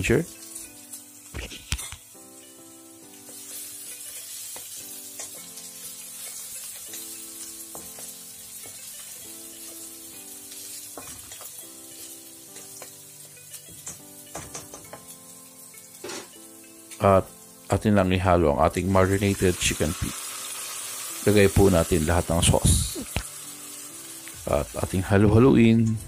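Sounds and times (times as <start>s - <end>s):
garlic sizzling in hot oil: 0.0s - 25.1s
soft background music: 0.0s - 26.0s.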